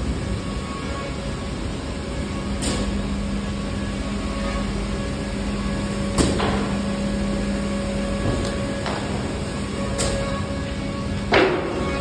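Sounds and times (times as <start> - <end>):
noisy workshop background: 0.0 - 12.0
steady machine hum: 0.0 - 12.0.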